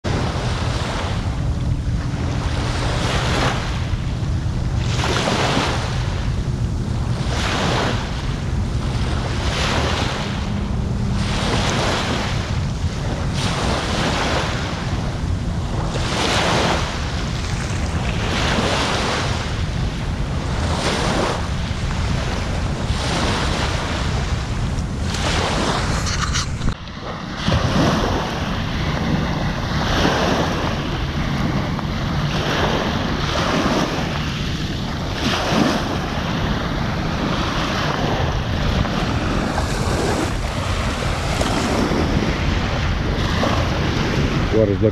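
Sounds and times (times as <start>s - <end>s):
small waves breaking on beach: 0.0s - 44.9s
wind rumble on microphone: 0.0s - 44.9s.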